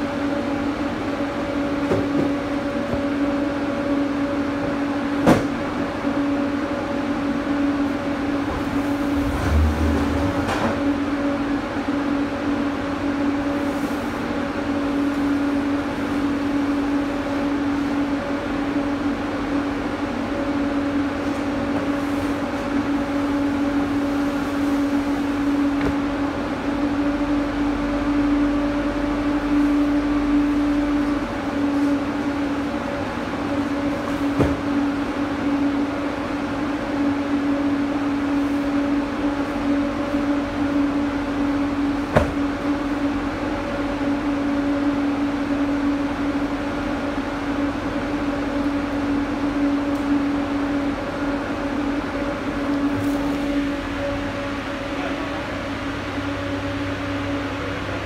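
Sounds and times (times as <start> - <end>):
refrigeration unit humming: 0.0 - 58.0.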